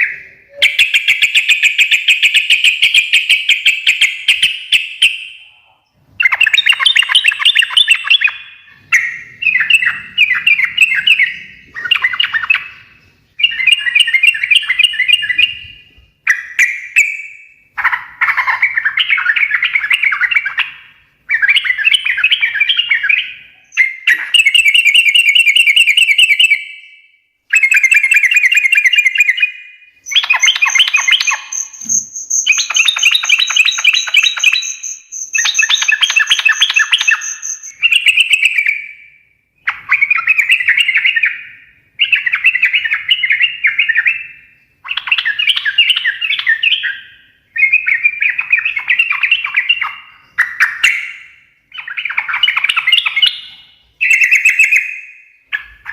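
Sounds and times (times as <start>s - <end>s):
bulbul singing chattering song: 0.0s - 55.9s.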